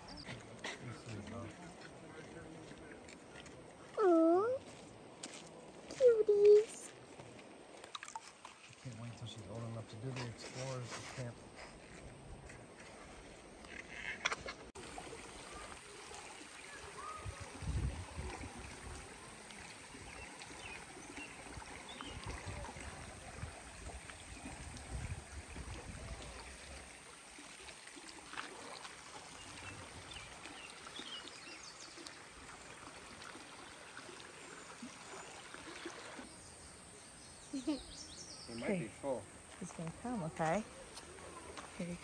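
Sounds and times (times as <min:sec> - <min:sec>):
creek water flowing: 0:00.0 - 0:42.0.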